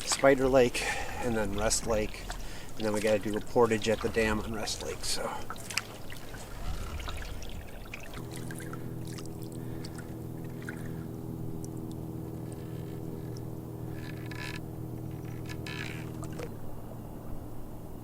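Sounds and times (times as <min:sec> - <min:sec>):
paddle strokes splashing water: 0:00.0 - 0:16.6
low hum of held tones: 0:00.0 - 0:18.0.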